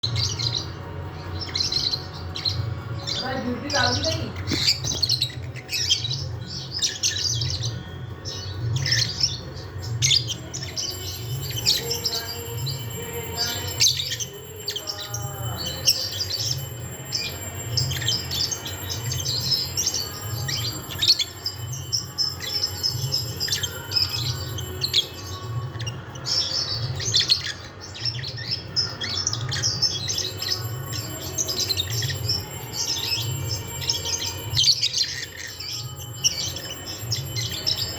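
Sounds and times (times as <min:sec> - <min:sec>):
birds squawking and chirping: 0:00.0 - 0:37.9.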